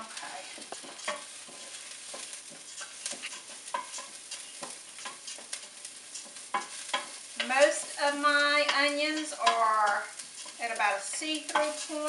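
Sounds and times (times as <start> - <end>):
onions sizzling: 0.0 - 12.0
spoon stirring against pot: 0.0 - 12.0.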